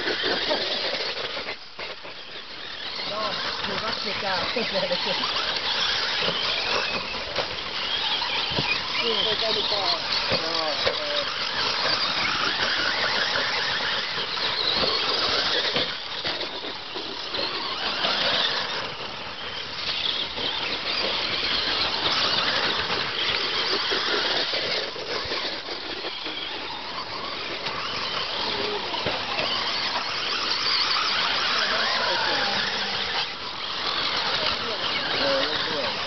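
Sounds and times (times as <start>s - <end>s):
rc car motor whine: 0.0s - 36.0s.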